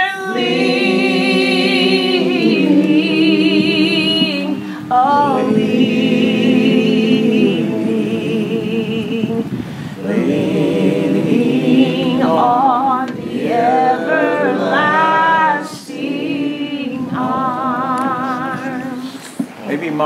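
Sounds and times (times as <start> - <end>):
woman singing: 0.0 - 9.6, 11.3 - 19.5
group singing a hymn unaccompanied: 0.0 - 19.8.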